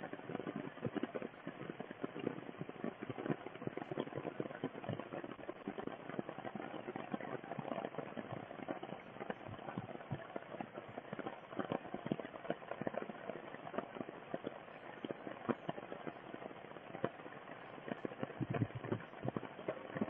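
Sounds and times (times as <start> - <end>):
rain pattering on leaves: 0.0 - 20.0.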